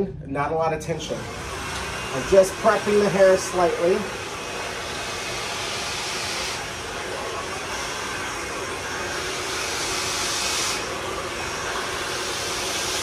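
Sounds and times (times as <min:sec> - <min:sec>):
blow dryer rushing air: 0:00.9 - 0:13.0.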